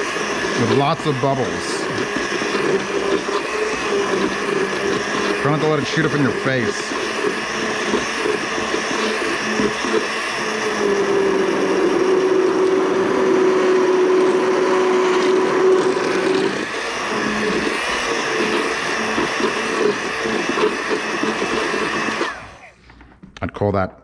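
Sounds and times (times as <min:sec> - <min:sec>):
immersion blender running: 0:00.0 - 0:22.8.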